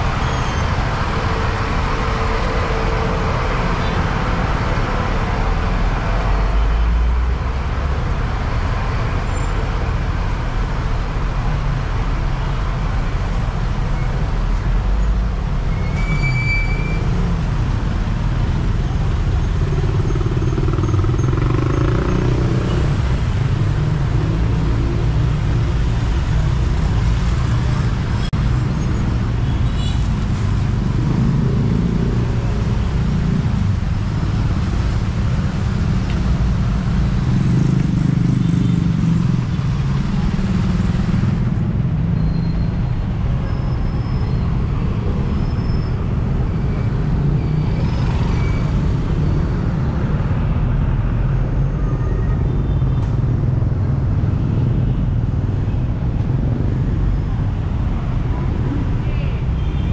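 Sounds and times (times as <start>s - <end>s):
busy street traffic rumble: 0.0s - 59.9s.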